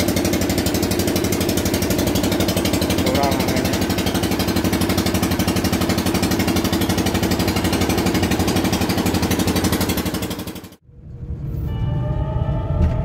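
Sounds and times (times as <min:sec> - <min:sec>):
truck diesel engine running: 0:00.0 - 0:10.8.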